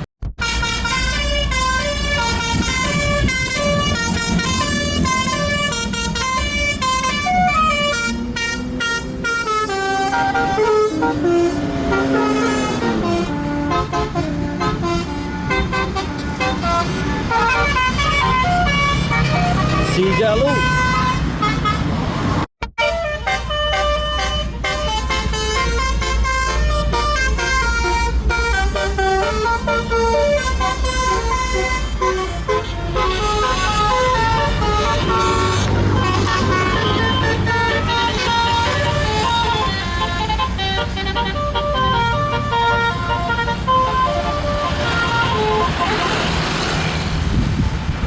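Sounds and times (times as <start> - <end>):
bus horn melody: 0.0 - 47.1
bus engine rumble: 0.0 - 48.0.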